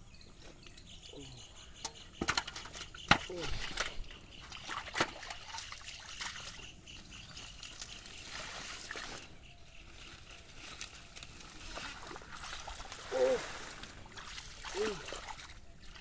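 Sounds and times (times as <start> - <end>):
water trickling and splashing: 2.2 - 16.0.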